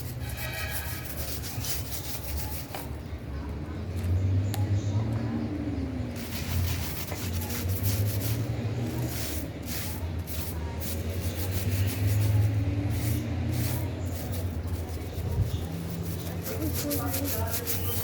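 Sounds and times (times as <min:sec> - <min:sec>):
brush scrubbing plastic: 0:00.0 - 0:02.8, 0:06.2 - 0:18.0.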